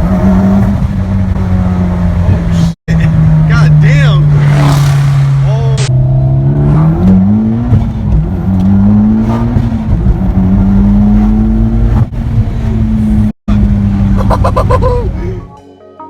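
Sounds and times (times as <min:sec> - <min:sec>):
car engine at high revs: 0:00.0 - 0:15.3.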